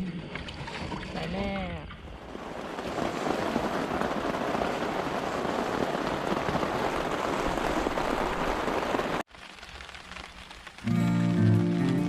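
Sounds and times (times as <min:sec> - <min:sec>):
heavy rain: 0:02.1 - 0:12.0.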